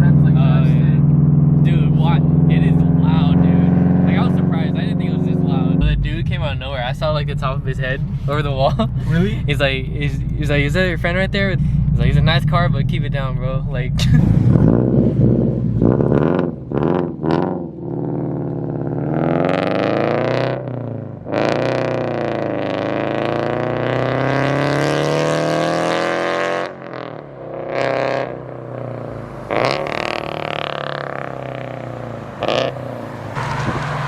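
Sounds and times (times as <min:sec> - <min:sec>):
loud car engine revving: 0:00.0 - 0:34.0.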